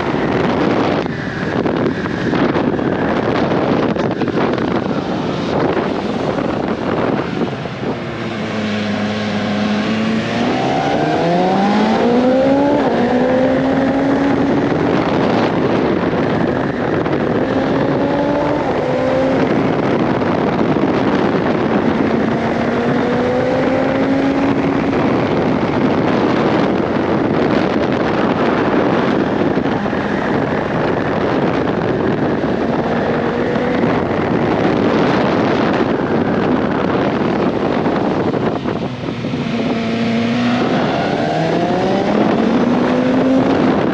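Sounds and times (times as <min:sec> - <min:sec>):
motorcycle engine revving: 0:00.0 - 0:43.9
wind rushing over microphone: 0:00.0 - 0:43.9.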